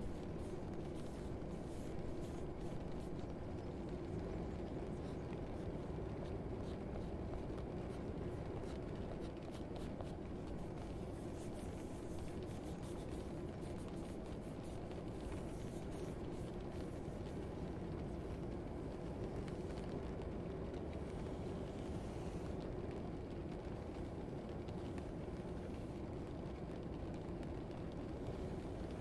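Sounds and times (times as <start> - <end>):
faint ticks and scratches: 0.0 - 29.0.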